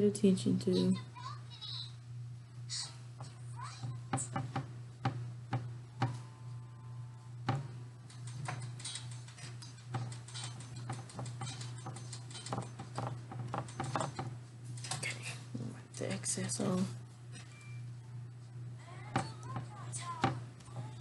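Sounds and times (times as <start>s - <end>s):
low hum: 1.9s - 21.0s.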